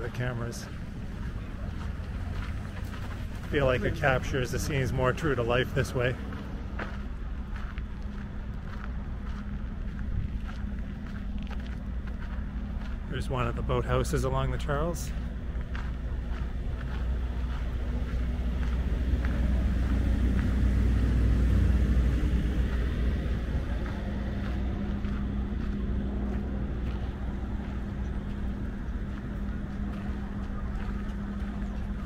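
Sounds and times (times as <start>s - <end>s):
passing vehicle engine rumble: 0.0s - 32.0s
steady low hum: 0.0s - 32.0s.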